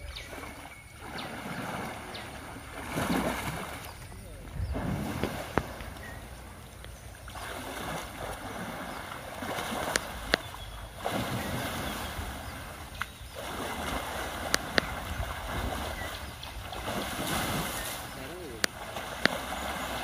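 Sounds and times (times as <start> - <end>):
elephant splashing in water: 0.0 - 20.0.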